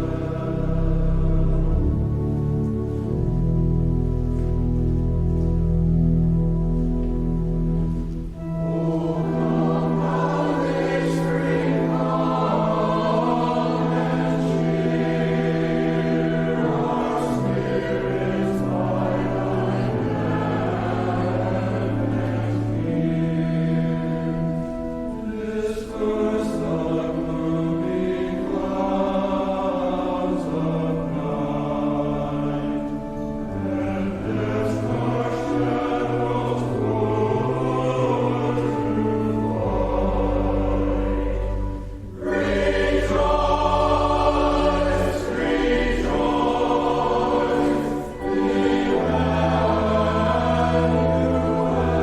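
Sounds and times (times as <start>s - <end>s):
choir singing in parts: 0.0s - 3.3s, 8.3s - 52.0s
sustained low instrumental notes: 0.0s - 52.0s.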